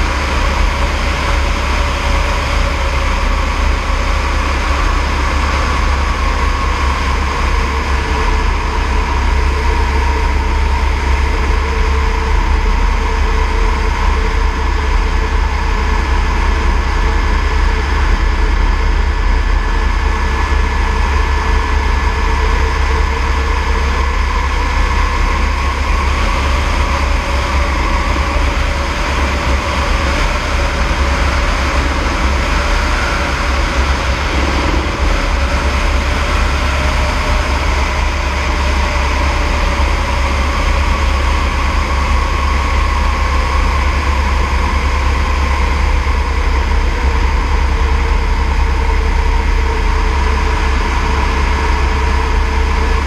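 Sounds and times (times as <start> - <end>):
helicopter drone: 0.0 - 53.0.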